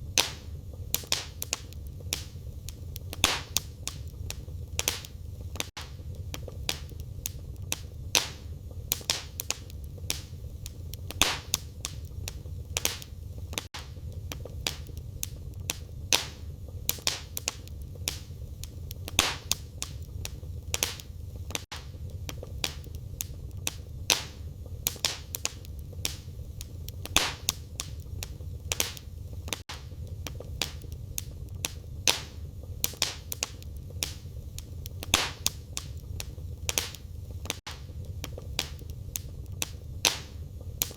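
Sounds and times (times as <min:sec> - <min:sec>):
firewood crackling and popping: 0:00.0 - 0:40.9
low rumble of flames: 0:00.0 - 0:40.9.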